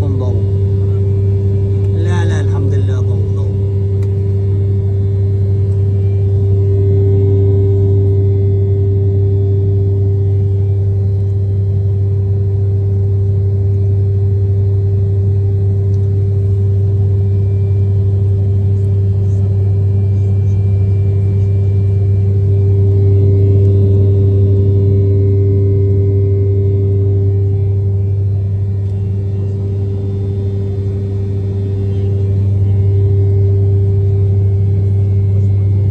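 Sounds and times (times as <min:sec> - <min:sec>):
jet engine cabin drone: 0:00.0 - 0:35.9.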